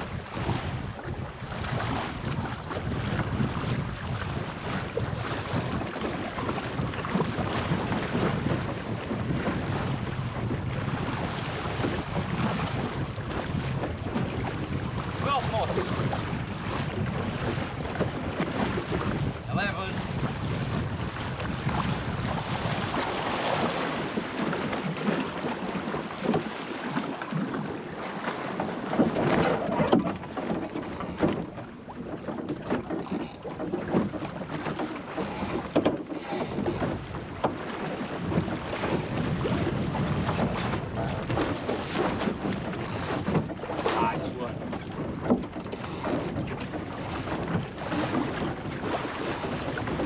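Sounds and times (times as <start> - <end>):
water rushing past hull: 0.0 - 50.0
wind buffeting microphone: 0.0 - 50.0.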